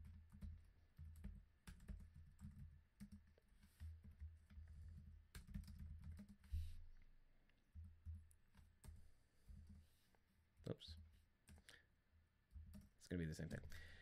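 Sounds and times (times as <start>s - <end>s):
faint keyboard typing: 0.0s - 14.0s.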